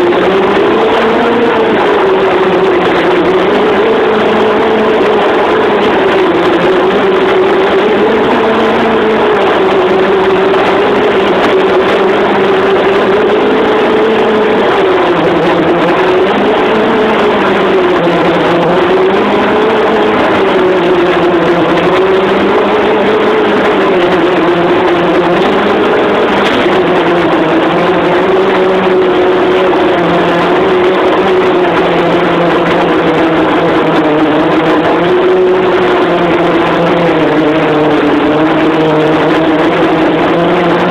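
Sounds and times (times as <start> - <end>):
boat engine droning: 0.0 - 40.9
rushing noise: 0.0 - 40.9.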